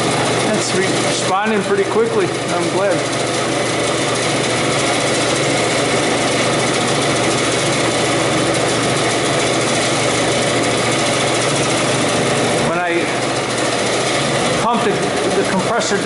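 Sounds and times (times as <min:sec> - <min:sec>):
evaporator fans rushing air: 0:00.0 - 0:16.0.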